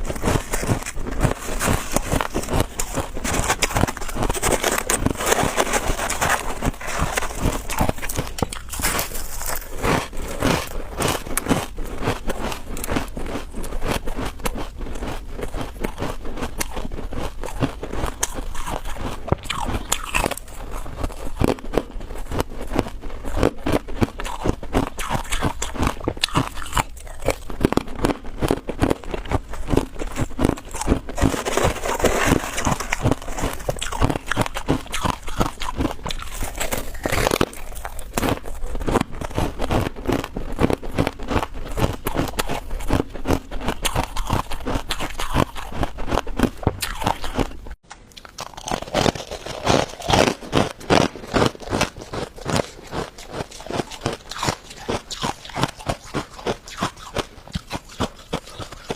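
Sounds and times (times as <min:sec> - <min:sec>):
chewing crunchy ice: 0:00.0 - 0:58.9.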